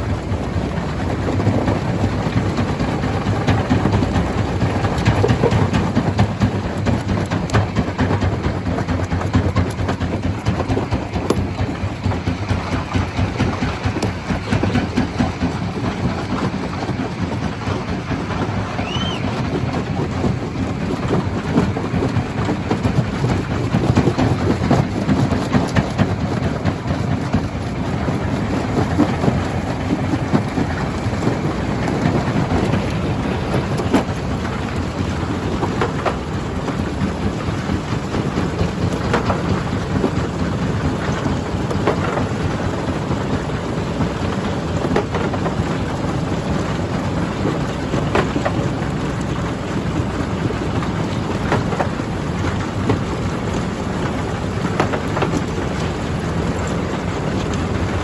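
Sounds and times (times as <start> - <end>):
stone crusher rumbling: 0.0 - 58.0.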